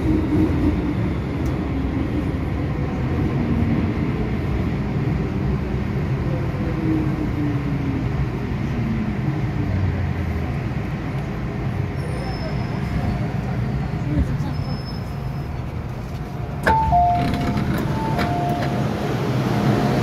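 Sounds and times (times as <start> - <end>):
metro train wheels rumbling: 0.0 - 20.0.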